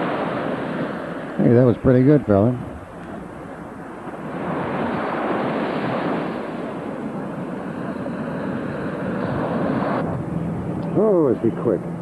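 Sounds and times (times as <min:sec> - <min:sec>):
ocean surf washing ashore: 0:00.0 - 0:12.0.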